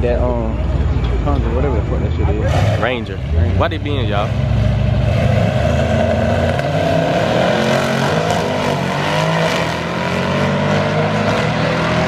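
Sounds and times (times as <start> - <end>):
car engine running loudly: 0.0 - 12.0.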